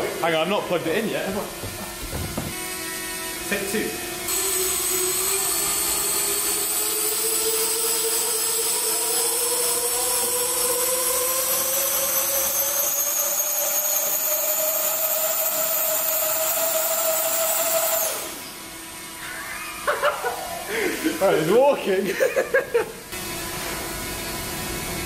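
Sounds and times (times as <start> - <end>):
electric rotor motors whining: 0.0 - 25.0.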